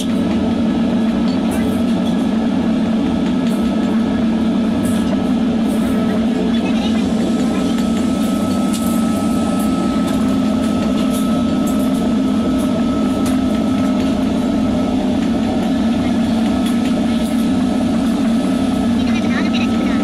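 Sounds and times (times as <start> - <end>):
workshop machinery droning: 0.0 - 20.0.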